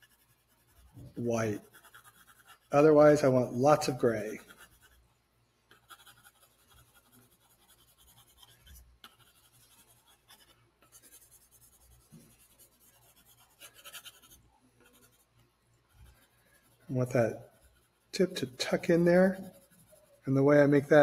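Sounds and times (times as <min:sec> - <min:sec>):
pencil scratching on paper: 0:00.0 - 0:05.0, 0:05.7 - 0:20.8.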